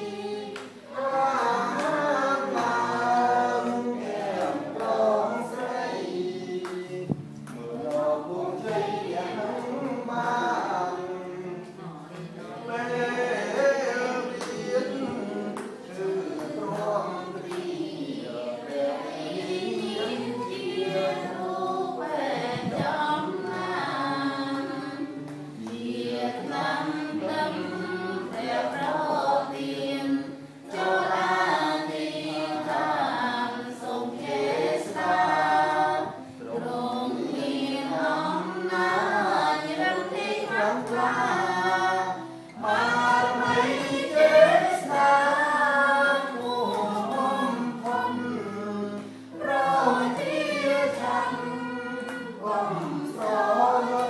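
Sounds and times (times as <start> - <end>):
singing church song: 0.0 - 54.0.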